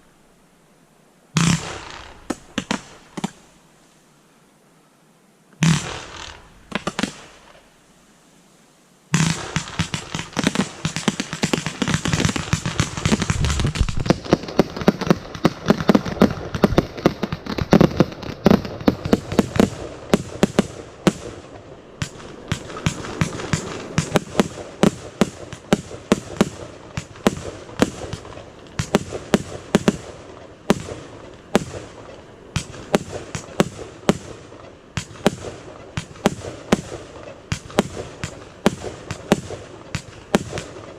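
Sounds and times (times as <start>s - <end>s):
fireworks bangs and crackling: 1.4s - 3.4s, 5.6s - 7.7s, 9.1s - 40.9s.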